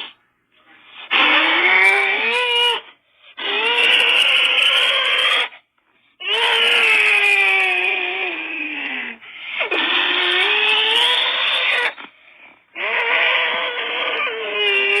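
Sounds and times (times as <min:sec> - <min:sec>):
harsh distorted scream: 0:01.0 - 0:05.6, 0:06.2 - 0:12.1, 0:12.8 - 0:15.0.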